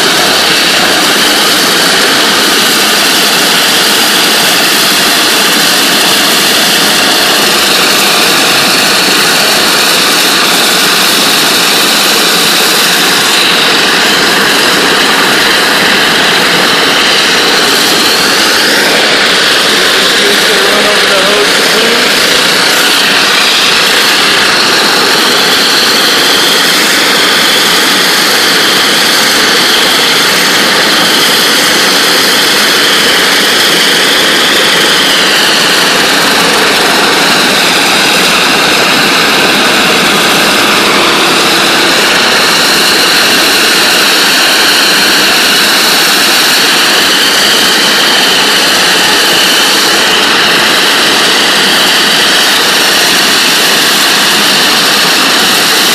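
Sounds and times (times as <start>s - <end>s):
water jet hissing roar: 0.0s - 55.9s.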